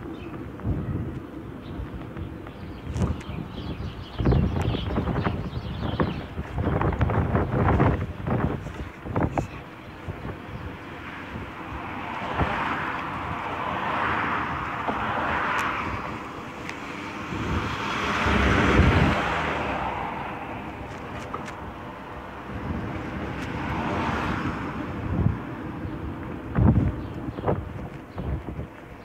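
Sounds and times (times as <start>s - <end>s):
bike road rumble: 0.0s - 29.0s
wind rushing over microphone: 0.0s - 29.0s.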